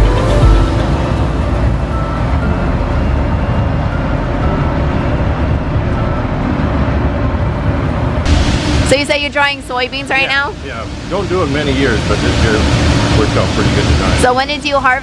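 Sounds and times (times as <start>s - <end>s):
grain bin drying fans running: 0.0s - 15.0s.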